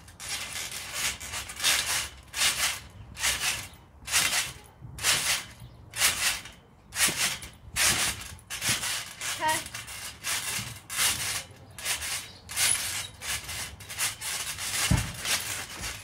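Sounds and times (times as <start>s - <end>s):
trampoline bouncing swish: 0.0s - 16.0s.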